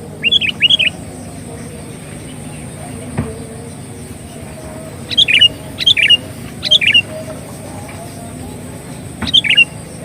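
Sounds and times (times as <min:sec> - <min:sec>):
bird chirping song: 0:00.0 - 0:10.0.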